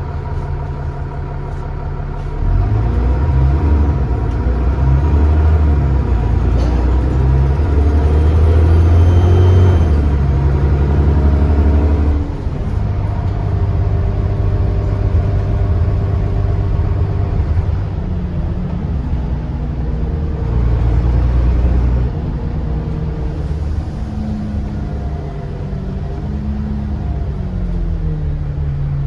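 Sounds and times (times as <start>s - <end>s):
diesel bus engine pulling: 0.0s - 29.0s.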